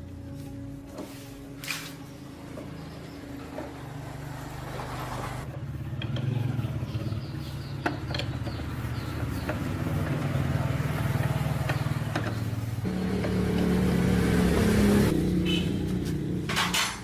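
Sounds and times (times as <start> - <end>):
motorbike engine humming: 0.0 - 17.0.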